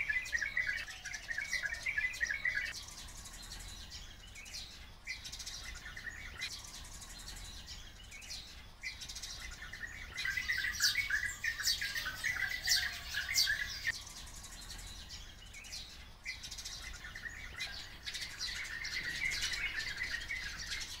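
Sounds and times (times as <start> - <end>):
flock of birds chirping: 0.0 - 21.0.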